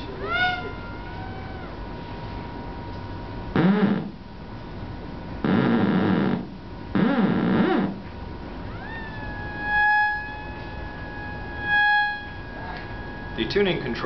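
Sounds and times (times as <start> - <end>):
theremin rough low tone: 0.0 - 4.3, 5.3 - 14.0
amplifier hiss and hum: 0.0 - 14.0.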